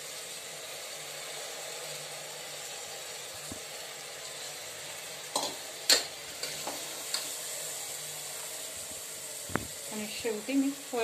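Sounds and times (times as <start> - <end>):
rice sizzling in oil: 0.0 - 11.0.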